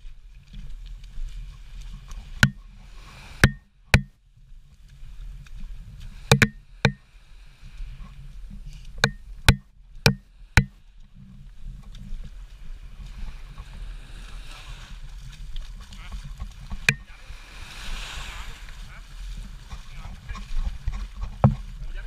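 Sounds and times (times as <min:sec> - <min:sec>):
small waves washing onto shore: 0:00.0 - 0:04.1, 0:04.8 - 0:22.0.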